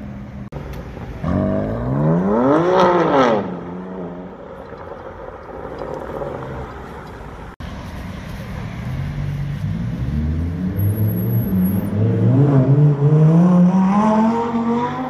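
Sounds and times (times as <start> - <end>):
city traffic: 0.0 - 15.0
car engine revving: 0.6 - 7.6, 8.7 - 15.0.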